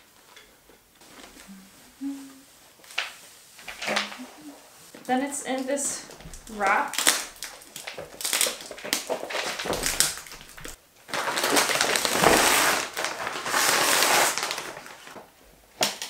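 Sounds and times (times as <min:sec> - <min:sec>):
plastic wrap crinkling: 0:02.5 - 0:16.0.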